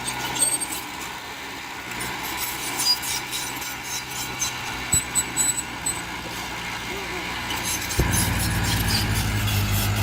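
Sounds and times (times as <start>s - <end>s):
heavy machinery engine drone: 0.0s - 10.0s
rough rasping scraping: 0.0s - 10.0s.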